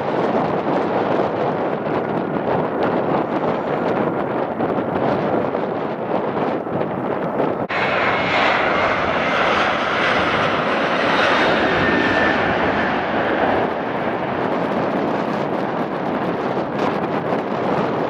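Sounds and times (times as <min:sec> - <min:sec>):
jet airliner engines rushing: 0:00.0 - 0:18.0.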